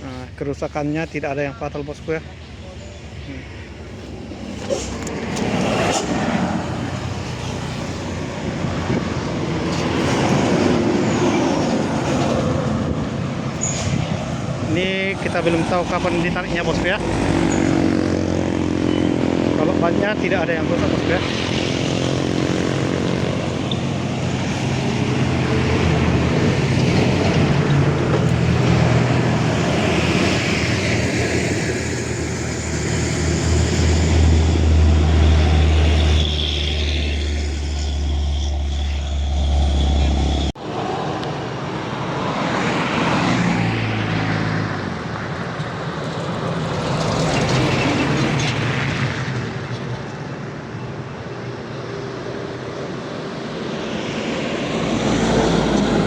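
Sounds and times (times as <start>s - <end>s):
diesel truck engines climbing: 0.0s - 51.0s, 52.5s - 56.0s.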